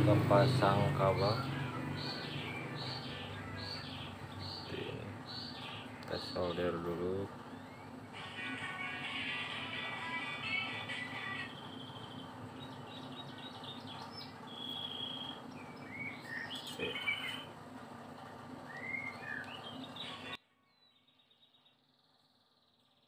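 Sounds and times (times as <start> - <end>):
steady low hum: 0.0 - 20.4
birds chirping: 0.0 - 23.0.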